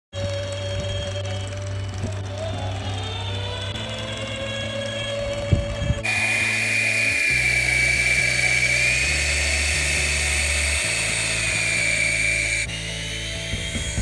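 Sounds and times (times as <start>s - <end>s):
background music: 0.2s - 14.0s
toy helicopter motors whining: 0.2s - 14.0s.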